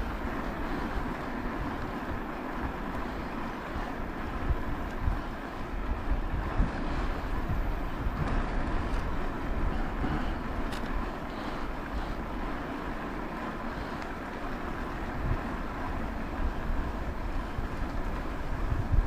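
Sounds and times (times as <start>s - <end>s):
wind buffeting microphone: 0.0s - 12.8s, 13.8s - 19.0s
steady rumble: 0.0s - 19.0s.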